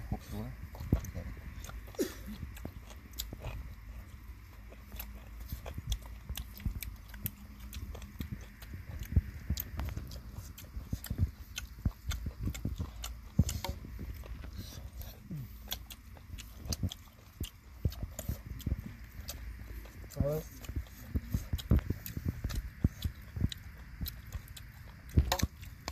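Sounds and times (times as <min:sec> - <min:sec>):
wet chewing mouth noises: 0:00.0 - 0:25.9.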